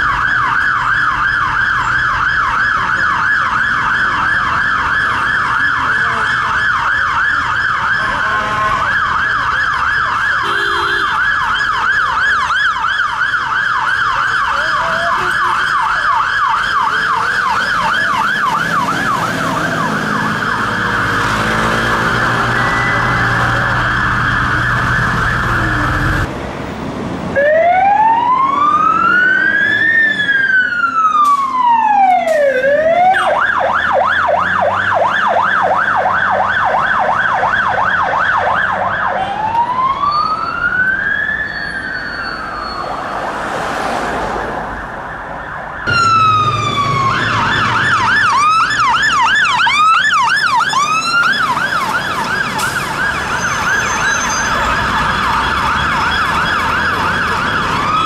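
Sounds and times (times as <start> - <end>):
fire engine siren wailing: 0.0 - 26.3, 27.3 - 58.0
fire engine siren yelping: 0.0 - 26.3, 27.3 - 58.0.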